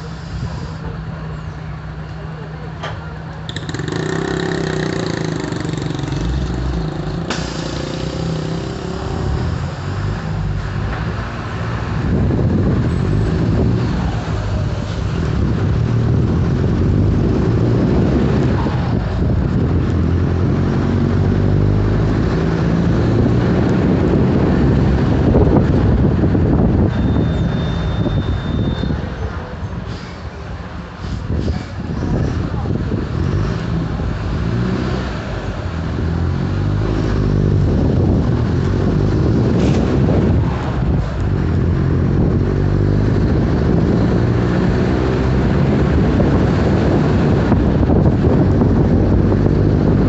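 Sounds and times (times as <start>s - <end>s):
diesel bus engine rumbling: 0.0s - 50.0s.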